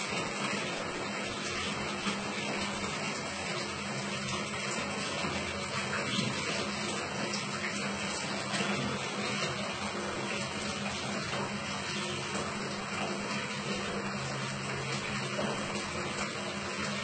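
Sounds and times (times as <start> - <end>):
tap water running: 0.0 - 17.0.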